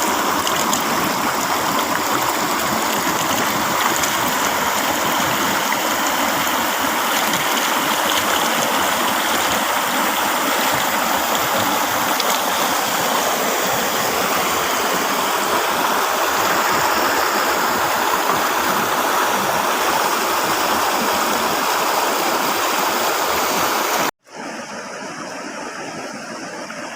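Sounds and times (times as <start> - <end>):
river water rushing: 0.0 - 26.9.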